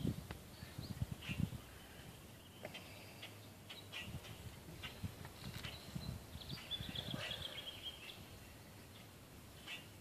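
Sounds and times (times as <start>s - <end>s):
bird chirping: 0.5s - 10.0s.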